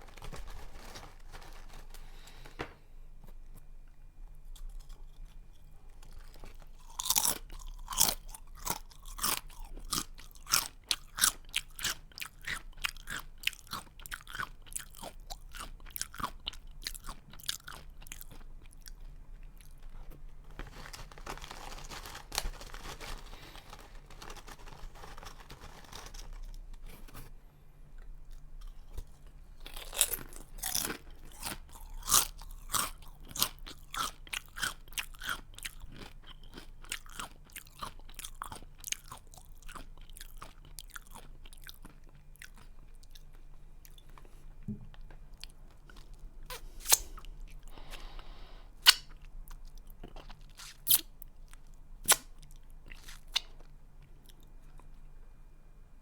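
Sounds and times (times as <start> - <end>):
chewing crunchy snack: 4.4 - 27.3, 28.0 - 55.0.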